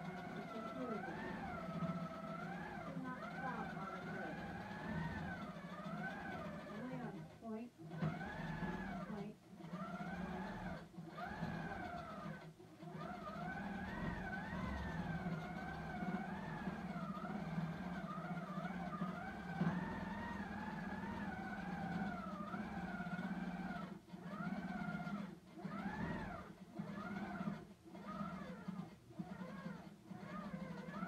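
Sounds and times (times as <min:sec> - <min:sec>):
quilting machine motor whining: 0:00.0 - 0:31.0.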